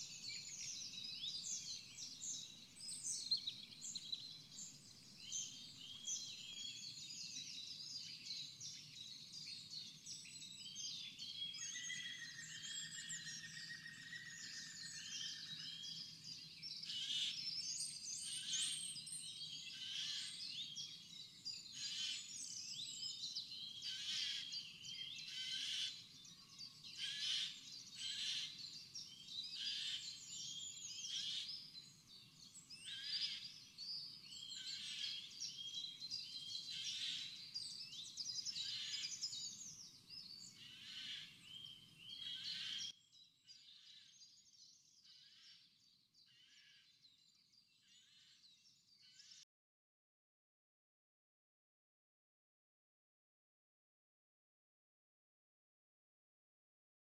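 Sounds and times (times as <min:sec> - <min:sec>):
birds singing: 0:00.0 - 0:49.4.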